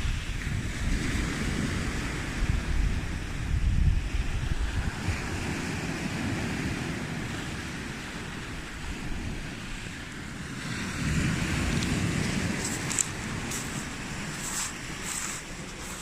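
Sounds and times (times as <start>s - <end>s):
sea waves washing onto beach: 0.0s - 16.0s
wind buffeting microphone: 0.0s - 16.0s.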